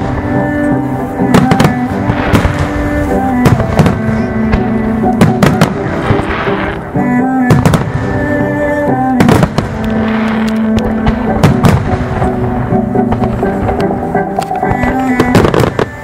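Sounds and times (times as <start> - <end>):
music over loudspeakers: 0.0 - 16.0.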